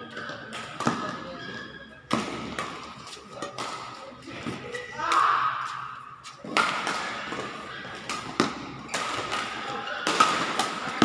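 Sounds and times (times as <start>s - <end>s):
rackets hitting shuttlecock: 0.1s - 1.3s, 2.1s - 11.0s.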